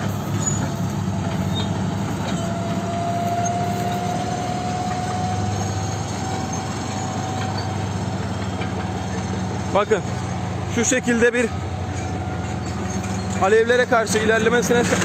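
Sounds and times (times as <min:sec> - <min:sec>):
diesel machinery engine drone: 0:00.0 - 0:15.0.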